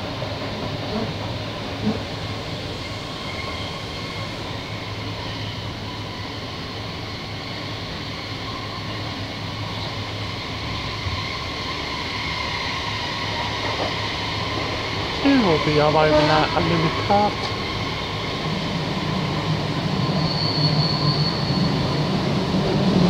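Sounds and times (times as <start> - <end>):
train carriage rumble and hum: 0.0 - 23.0.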